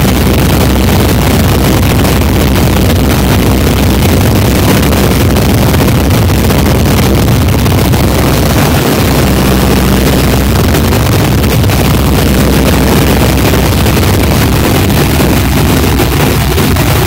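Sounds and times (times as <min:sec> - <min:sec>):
biplane engine and propeller: 0:00.0 - 0:17.0
wind rush: 0:00.0 - 0:17.0.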